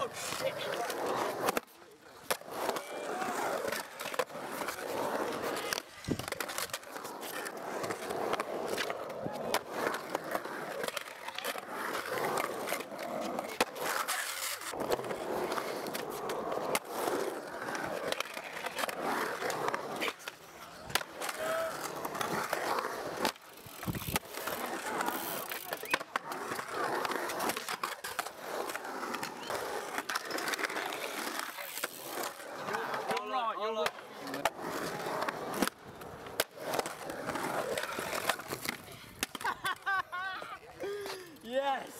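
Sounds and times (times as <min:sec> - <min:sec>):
skateboard clacks: 0:00.0 - 0:41.2
skateboard wheels rolling on concrete: 0:00.0 - 0:41.9.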